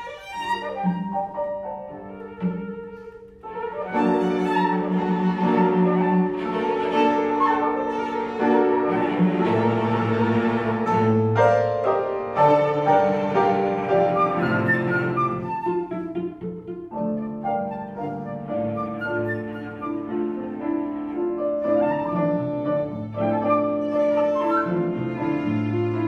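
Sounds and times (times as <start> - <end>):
violin cello and piano playing: 0.0 - 26.0.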